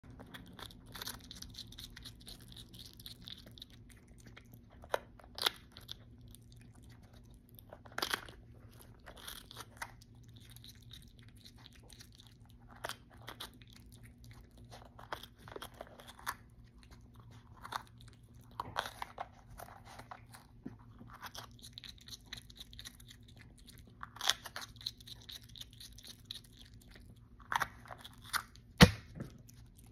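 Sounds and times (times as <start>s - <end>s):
quiet chewing: 0.0s - 29.9s
skunk crunching bell pepper: 0.0s - 29.9s.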